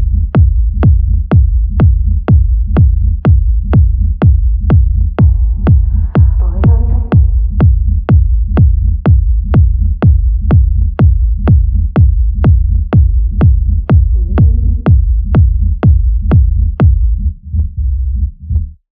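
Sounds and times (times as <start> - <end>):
kick drum beat: 0.0 - 18.7
deep bass: 0.0 - 18.9.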